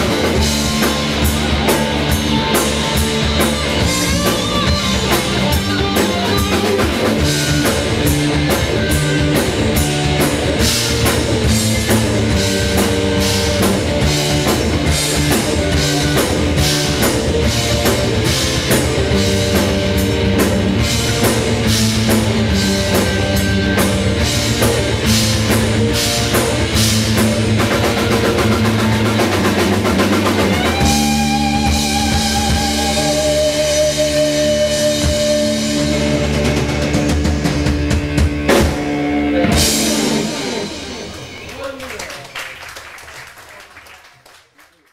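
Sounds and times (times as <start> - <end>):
drum-kit beat: 0.0 - 42.0
loud electric guitars: 0.0 - 42.7.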